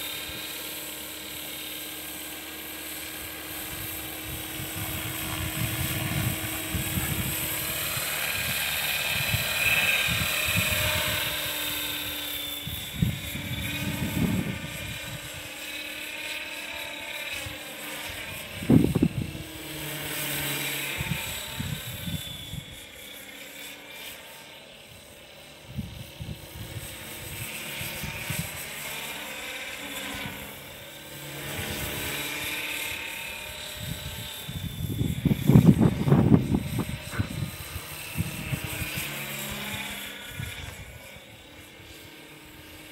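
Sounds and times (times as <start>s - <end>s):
model helicopter rotor whine: 0.0s - 42.9s.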